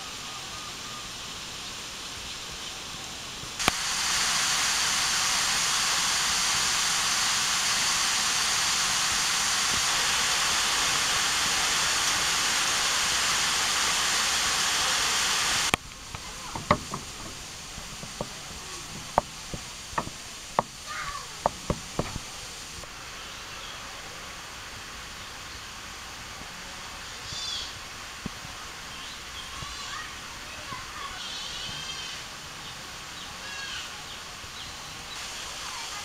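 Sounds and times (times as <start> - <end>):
water rushing over cascade: 0.0 - 36.0.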